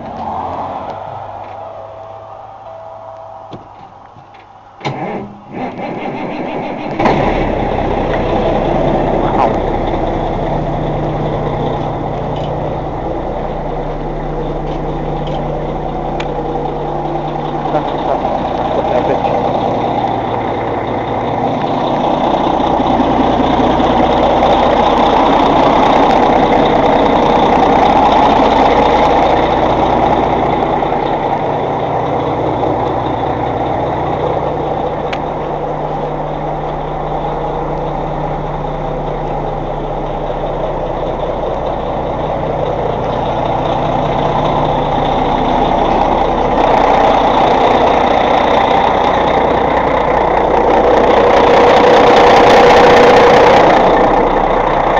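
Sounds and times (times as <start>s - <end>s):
truck diesel engine idling: 0.0s - 54.9s.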